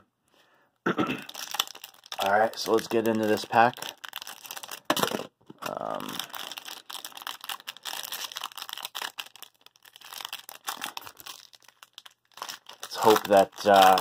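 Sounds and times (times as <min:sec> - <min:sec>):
foil wrapper crinkling and tearing: 0:01.3 - 0:14.0.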